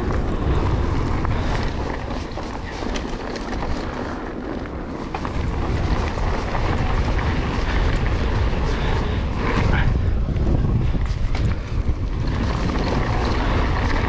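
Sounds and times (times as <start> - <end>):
bike clicks and rattles: 0.0 - 14.0
tyres on dirt trail: 0.0 - 14.0
wind buffeting microphone: 0.0 - 14.0.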